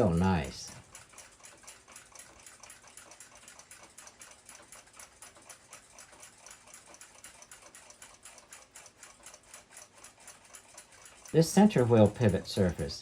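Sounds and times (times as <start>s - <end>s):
clock ticking rapidly: 0.0s - 13.0s.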